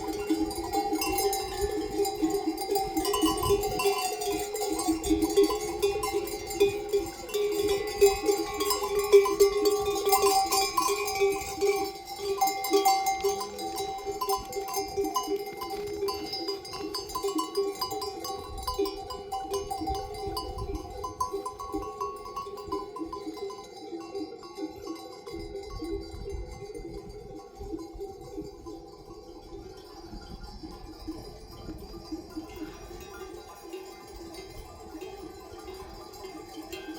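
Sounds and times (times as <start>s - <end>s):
livestock bells clanking: 0.0s - 36.9s.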